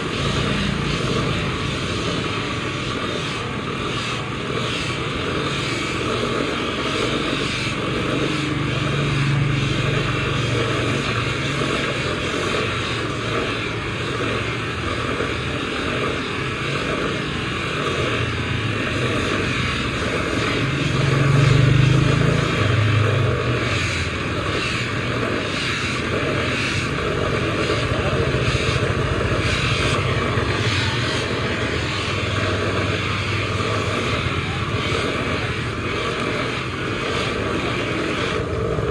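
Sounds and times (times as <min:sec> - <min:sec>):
machine humming: 0:00.0 - 0:38.9.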